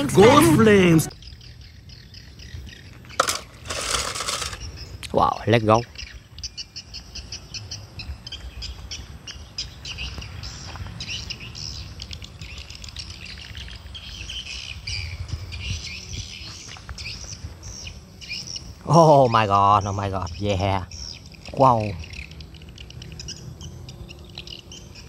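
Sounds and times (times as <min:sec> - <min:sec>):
low steady background rumble: 0:00.0 - 0:25.0
small birds chirping: 0:00.0 - 0:25.0.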